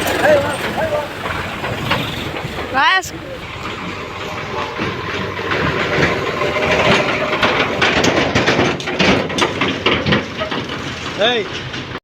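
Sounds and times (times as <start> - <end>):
diesel tractor engine under load: 0.0 - 12.0
knocks and rattles: 0.0 - 12.0.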